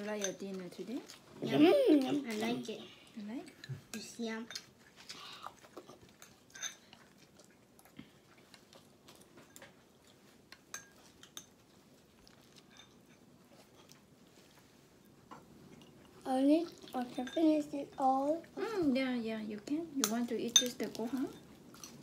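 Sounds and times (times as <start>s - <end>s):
quiet eating sounds: 0.0s - 22.0s.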